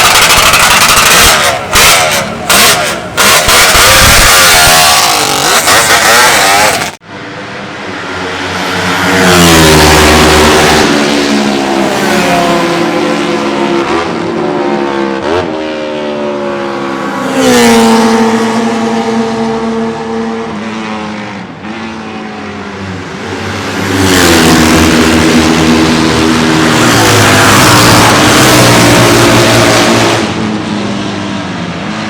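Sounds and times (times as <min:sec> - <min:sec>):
two-stroke motorcycle engine revving: 0:00.0 - 0:07.0, 0:08.8 - 0:21.0, 0:23.9 - 0:30.5.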